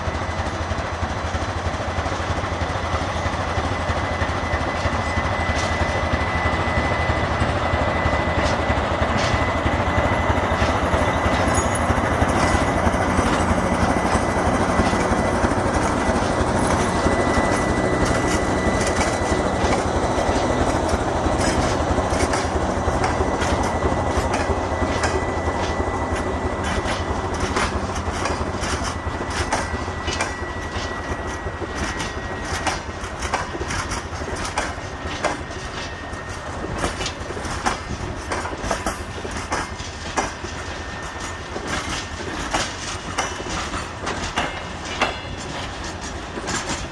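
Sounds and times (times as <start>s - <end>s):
diesel locomotive engine whining: 0.0s - 46.9s
wheels clacking over rail joints: 4.5s - 46.9s.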